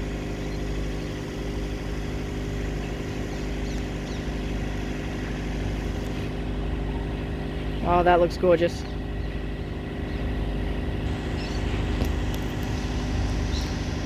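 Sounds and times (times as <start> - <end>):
train diesel engine droning: 0.0 - 14.0.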